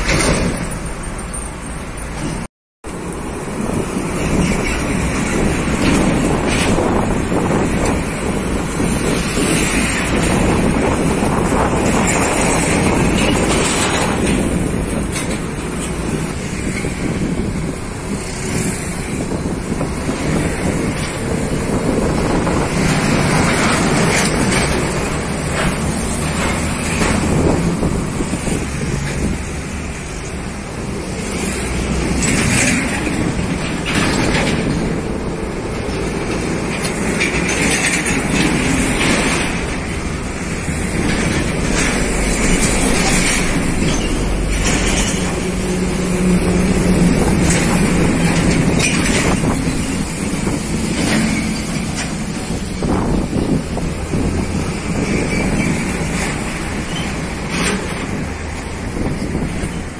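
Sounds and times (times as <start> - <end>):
diesel trucks labouring uphill: 0.0 - 59.9.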